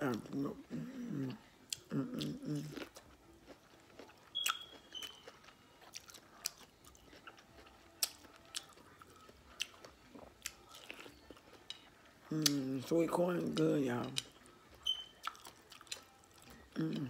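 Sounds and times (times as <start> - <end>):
chewing corn on the cob: 1.2 - 17.0.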